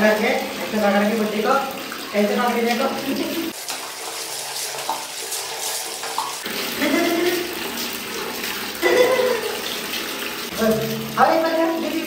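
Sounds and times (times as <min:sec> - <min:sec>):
water splashing on tiled floor: 0:00.0 - 0:12.0.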